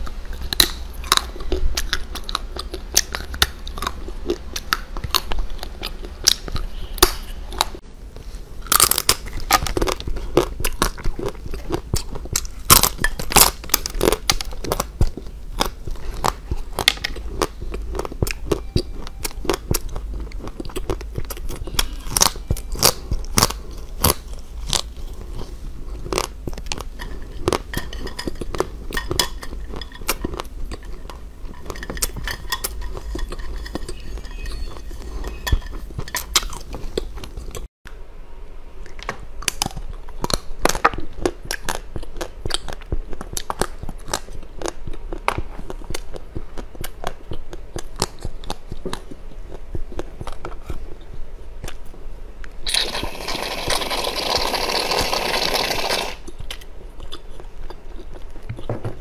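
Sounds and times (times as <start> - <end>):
crunching and chewing sweets: 0.0 - 37.7, 38.8 - 59.0.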